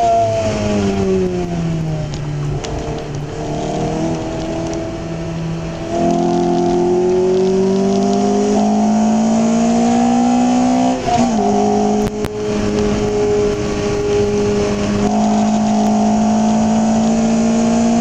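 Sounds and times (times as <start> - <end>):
car engine from inside cabin: 0.0 - 18.0.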